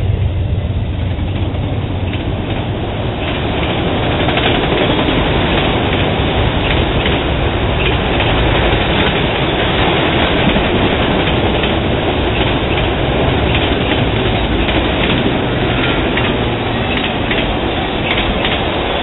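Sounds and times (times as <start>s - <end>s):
rail clicks: 0.0s - 19.0s
train wheels rumbling on rails: 0.0s - 19.0s.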